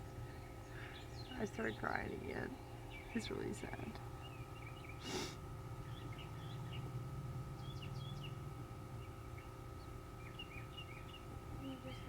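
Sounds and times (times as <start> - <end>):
faint hum: 0.0 - 12.0
small birds chirping: 0.0 - 12.0.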